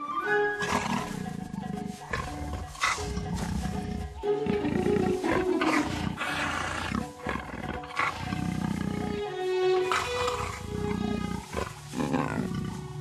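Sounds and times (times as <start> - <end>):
background music with held notes: 0.0 - 13.0
leopards growling: 0.6 - 13.0.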